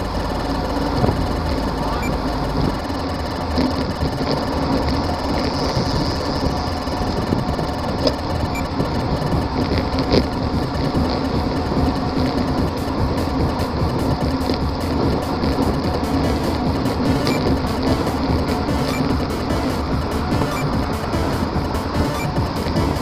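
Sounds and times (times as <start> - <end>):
road rumble: 0.0 - 23.0
sharp clicks and rattles: 0.0 - 23.0
wind rushing over microphone: 2.5 - 23.0.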